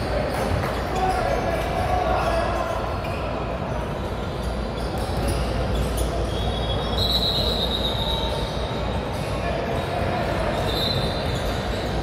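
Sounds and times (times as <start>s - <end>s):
crowd noise: 0.0s - 12.0s
sneaker squeaks: 0.0s - 12.0s.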